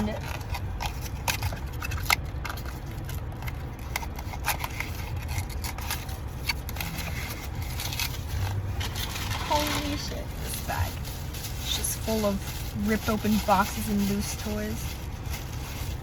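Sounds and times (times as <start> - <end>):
rustling cardboard and plastic toys: 0.0 - 16.0
steady low rumble: 0.0 - 16.0.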